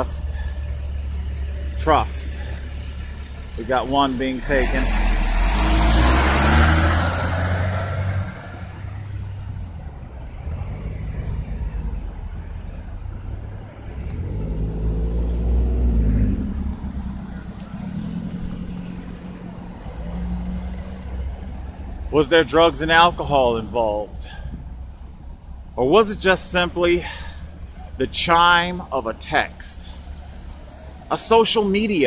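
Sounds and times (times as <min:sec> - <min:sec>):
vehicles passing on highway: 0:00.0 - 0:32.0.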